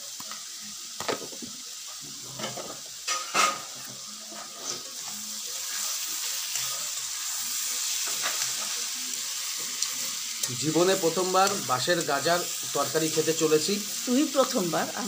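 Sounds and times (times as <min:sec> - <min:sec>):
curry sizzling in a wok: 0:00.0 - 0:15.0.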